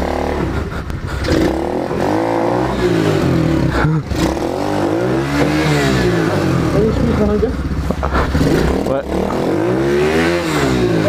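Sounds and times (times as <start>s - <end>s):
small motorbike engine revving: 0.0s - 11.0s.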